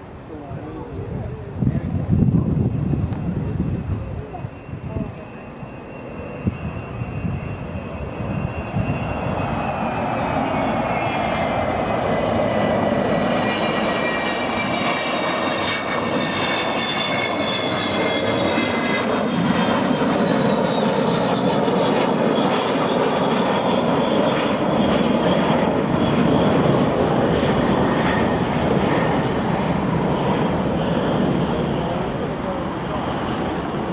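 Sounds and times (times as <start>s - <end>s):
aircraft engines running: 0.0s - 33.9s
high engine whine: 0.2s - 33.9s.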